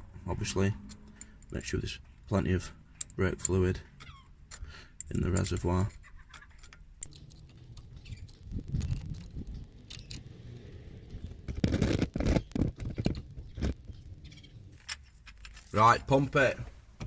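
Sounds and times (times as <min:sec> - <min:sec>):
handling clicks and scrapes: 0:02.9 - 0:17.0.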